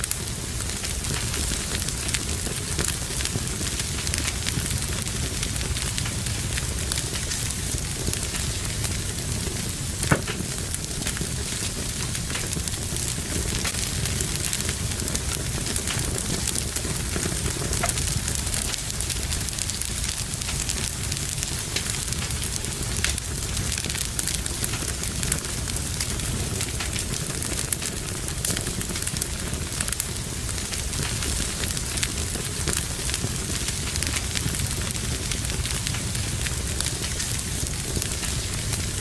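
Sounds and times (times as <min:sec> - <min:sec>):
low rumble of fire: 0:00.0 - 0:39.0
wood fire crackling and popping: 0:00.0 - 0:39.0.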